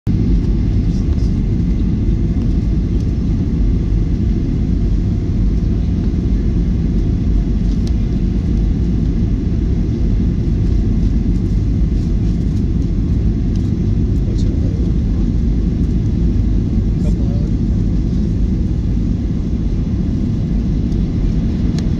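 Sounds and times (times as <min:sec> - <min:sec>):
airplane cabin engine rumble: 0:00.1 - 0:21.9.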